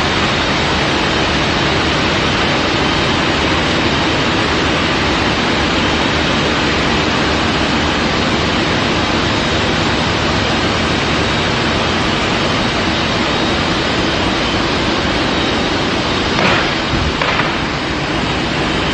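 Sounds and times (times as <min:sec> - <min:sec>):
machinery clatter: 0:00.0 - 0:18.9
machinery hum and hiss: 0:00.0 - 0:18.9.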